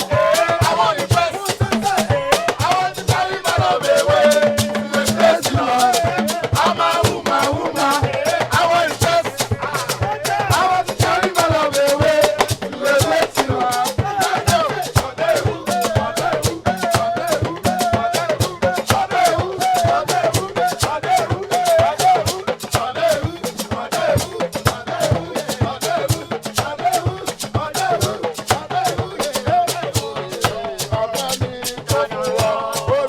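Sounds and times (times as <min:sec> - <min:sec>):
people singing a hymn: 0:00.0 - 0:33.0.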